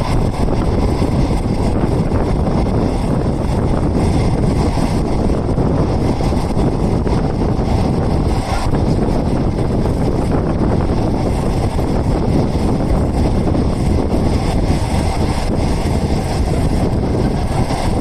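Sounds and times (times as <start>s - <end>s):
train wheels rumbling on rail: 0.0s - 18.0s
wind rushing in: 0.0s - 18.0s.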